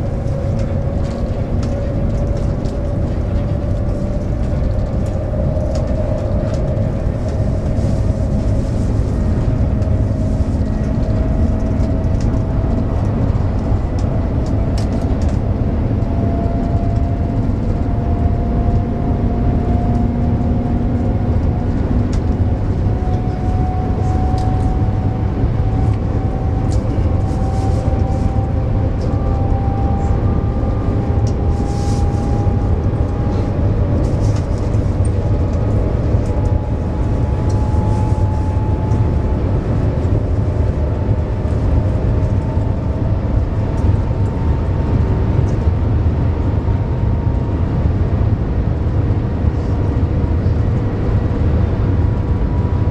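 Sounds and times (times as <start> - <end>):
train interior rumble and rush: 0.0 - 52.9.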